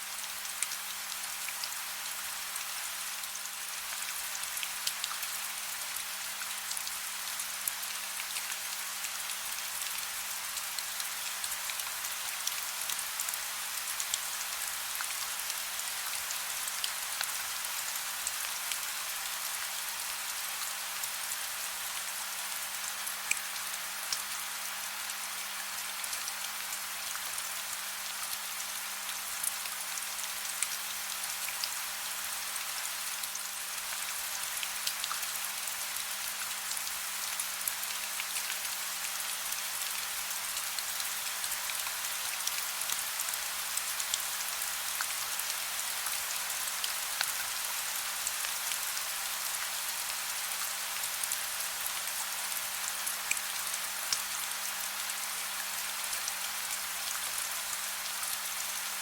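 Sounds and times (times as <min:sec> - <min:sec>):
soft rain hiss: 0:00.0 - 0:59.0.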